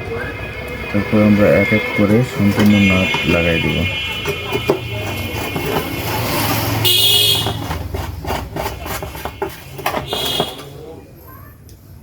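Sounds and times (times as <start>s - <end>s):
vehicle horns honking: 0.0s - 10.9s.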